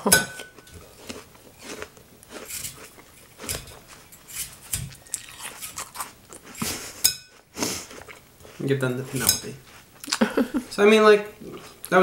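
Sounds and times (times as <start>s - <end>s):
apple crunching: 0.0s - 12.0s.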